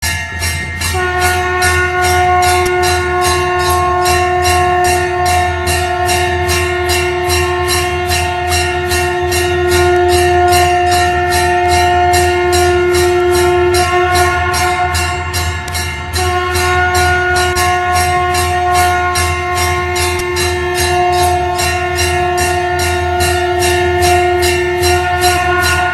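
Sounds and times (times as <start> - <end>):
temple bell rung rapidly: 0.0 - 25.9
conch shell blown: 0.9 - 25.9.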